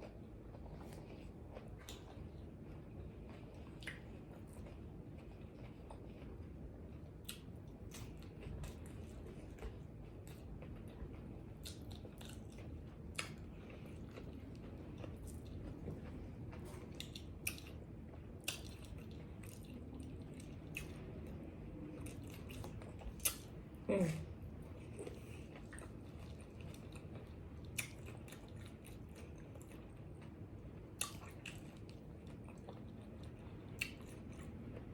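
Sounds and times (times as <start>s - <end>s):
person chewing and crunching food: 0.0s - 34.9s.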